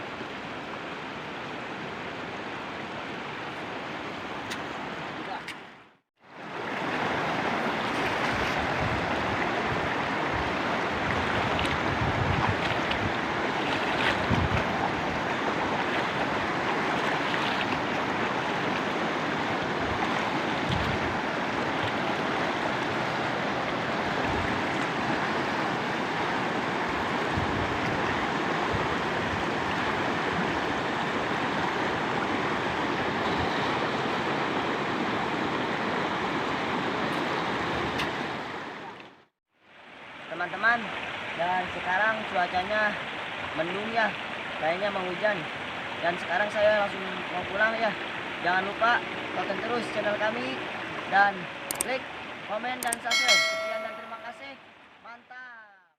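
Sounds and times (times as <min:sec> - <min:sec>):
flowing river water: 0:00.0 - 0:55.6.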